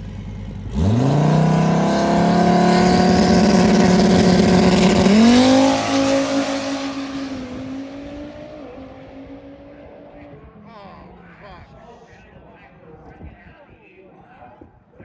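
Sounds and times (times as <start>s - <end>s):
race car engine at full throttle: 0.0s - 12.4s.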